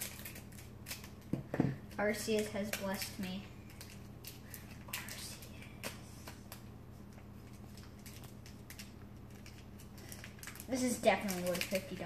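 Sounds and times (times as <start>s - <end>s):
foil wrapper crinkling: 0.0s - 1.3s, 1.9s - 12.0s
steady low hum: 0.0s - 12.0s.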